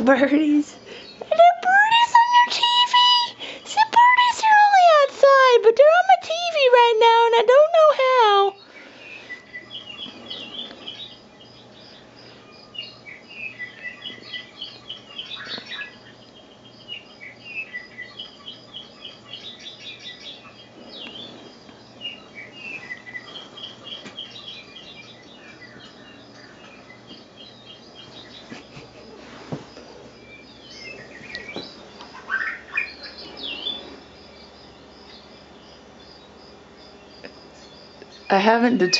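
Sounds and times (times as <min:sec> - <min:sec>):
birds chirping and twittering: 0:00.0 - 0:38.9
faint low hum: 0:00.0 - 0:38.9.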